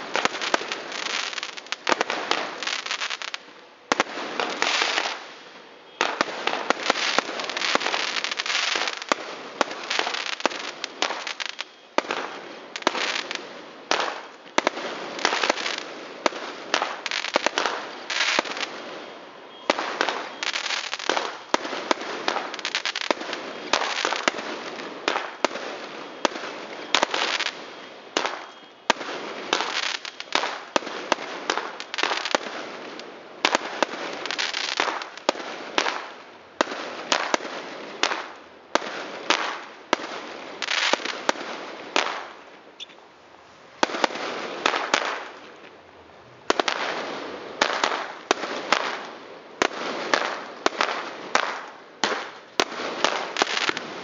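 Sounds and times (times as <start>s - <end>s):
fireworks banging and crackling: 0.0s - 43.0s, 43.7s - 54.0s.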